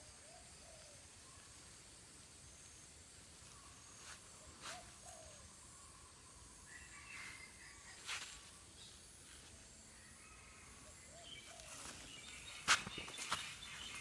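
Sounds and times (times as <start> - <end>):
faint birds: 0.0 - 14.0
faint insects: 0.0 - 14.0.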